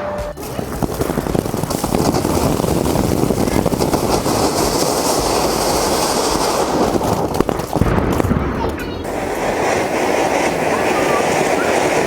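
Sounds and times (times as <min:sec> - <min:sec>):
firecrackers crackling: 0:00.0 - 0:12.0
hiss: 0:00.4 - 0:07.7, 0:09.0 - 0:12.0.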